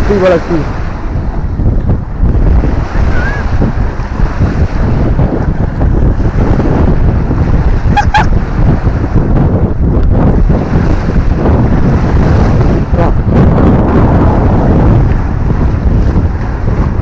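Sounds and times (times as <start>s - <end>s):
small waves washing up: 0.0s - 17.0s
wind buffeting microphone: 0.0s - 17.0s.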